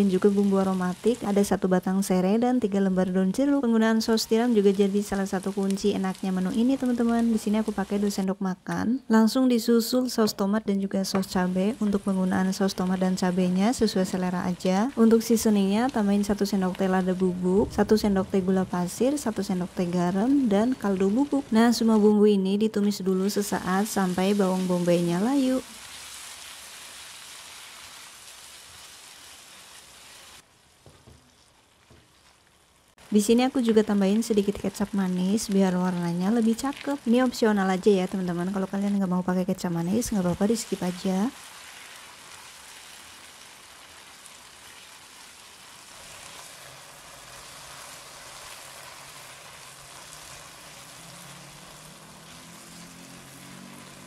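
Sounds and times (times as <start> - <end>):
food sizzling in a wok: 0.0 - 2.2, 3.1 - 8.2, 11.1 - 22.3, 23.2 - 39.0, 39.8 - 54.0.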